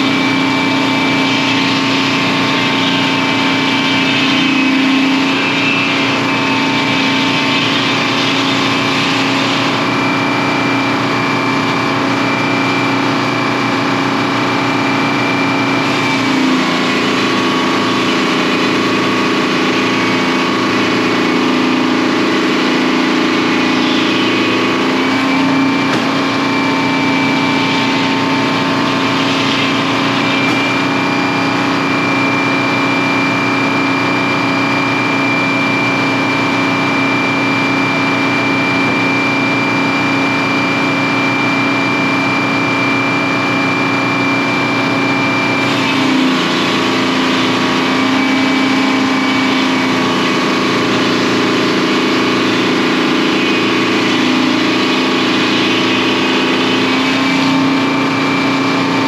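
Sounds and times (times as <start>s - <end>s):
diesel engine running under load: 0.0s - 59.0s
high steady whine: 0.0s - 59.0s.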